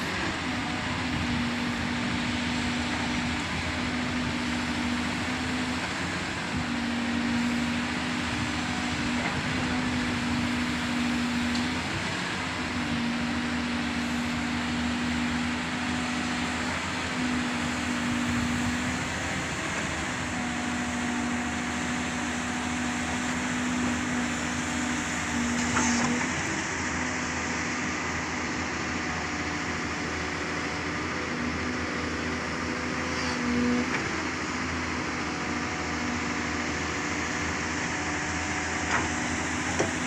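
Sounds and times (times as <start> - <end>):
excavator diesel engine droning: 0.0 - 40.0.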